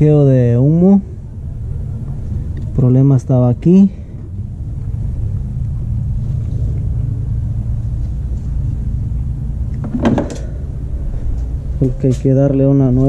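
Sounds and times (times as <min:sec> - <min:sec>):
machine rumbling: 0:00.0 - 0:13.0.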